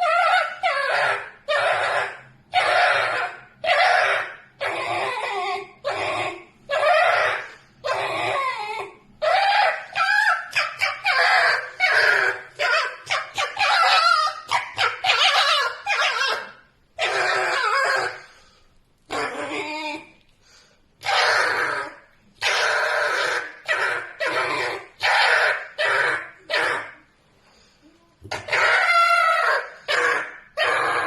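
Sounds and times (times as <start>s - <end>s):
fox screaming: 0.0s - 18.4s, 19.1s - 20.1s, 21.0s - 27.0s, 28.2s - 31.0s.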